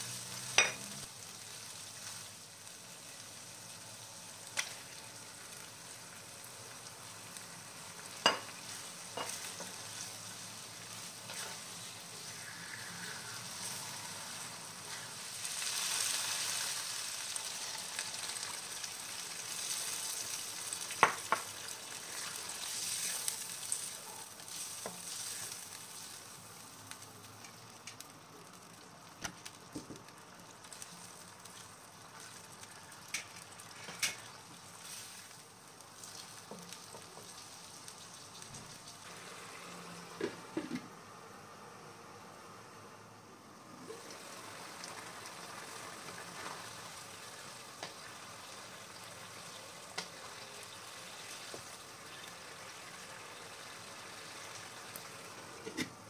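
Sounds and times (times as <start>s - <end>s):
curry paste sizzling in a wok: 0.0s - 56.0s.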